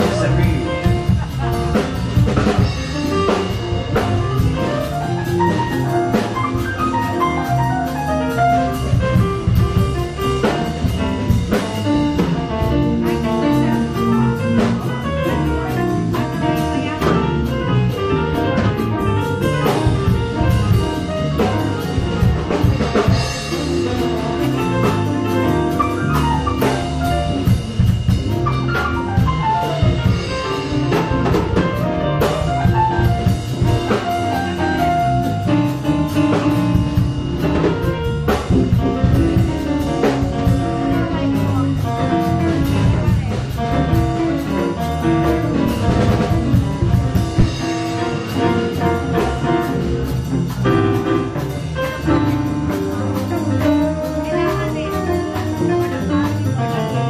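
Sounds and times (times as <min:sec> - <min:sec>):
drum kit: 0:00.0 - 0:57.0
electric guitar: 0:00.0 - 0:57.0
keyboard: 0:00.0 - 0:57.0.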